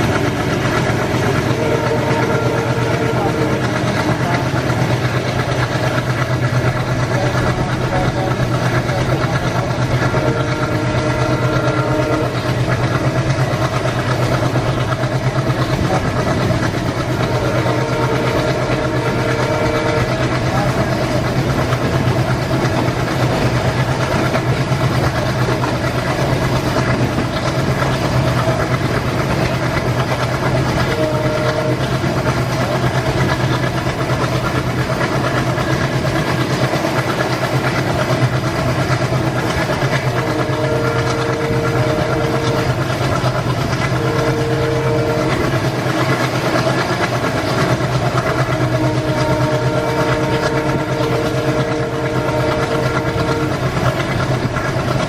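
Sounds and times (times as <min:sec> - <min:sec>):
train horn: 0:00.0 - 0:55.0
train wheels rumbling on track: 0:00.0 - 0:55.0.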